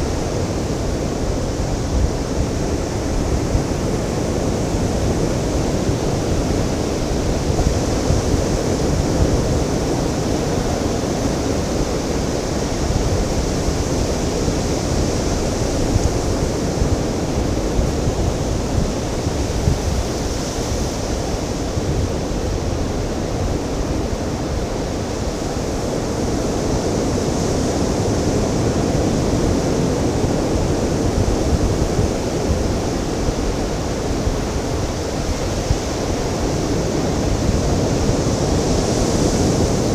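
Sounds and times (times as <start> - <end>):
ocean surf washing: 0.0 - 39.9
wind on microphone: 0.0 - 39.9.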